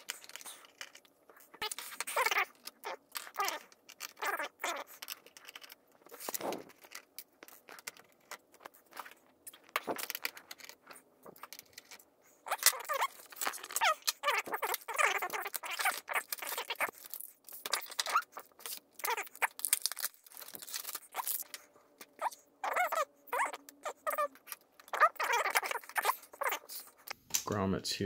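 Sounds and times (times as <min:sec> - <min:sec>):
metal and plastic parts rattling: 0:00.0 - 0:27.1
squeaky scrapes: 0:00.0 - 0:27.1.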